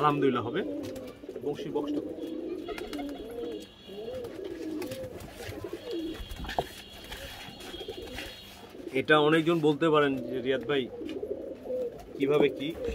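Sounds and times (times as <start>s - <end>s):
pigeons cooing: 0.0s - 12.9s.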